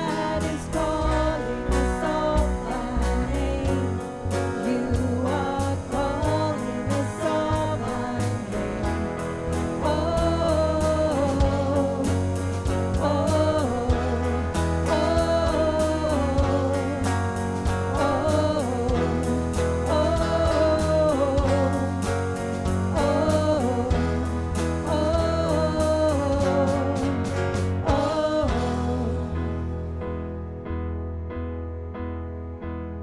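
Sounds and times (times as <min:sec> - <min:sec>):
band playing praise song: 0:00.0 - 0:30.7.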